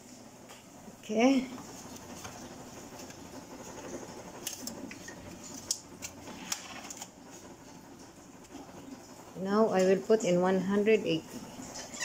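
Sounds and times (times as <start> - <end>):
oven humming: 0.0 - 12.0.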